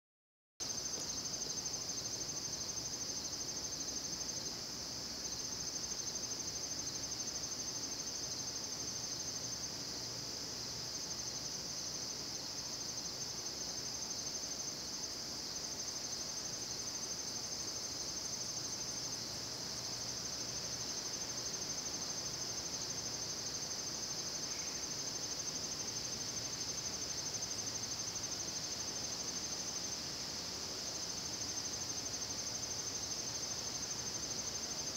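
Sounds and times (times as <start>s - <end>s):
insects trilling: 0.6s - 34.9s.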